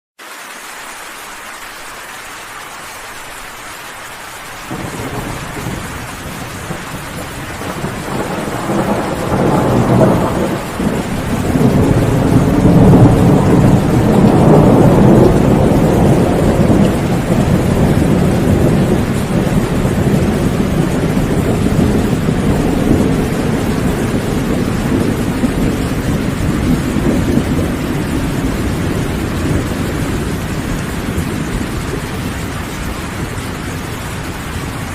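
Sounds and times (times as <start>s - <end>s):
heavy rain: 0.2s - 34.9s
rolling thunder: 4.7s - 34.9s.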